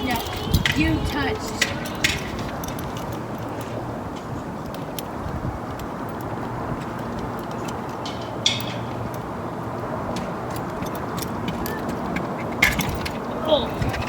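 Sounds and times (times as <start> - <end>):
hand tools clicking on metal: 0.0 - 14.0.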